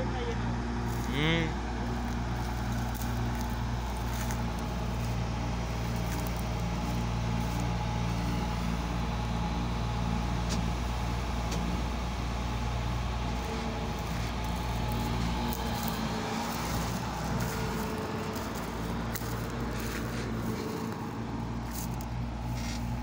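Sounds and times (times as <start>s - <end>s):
combine harvester engine drone: 0.0s - 23.0s.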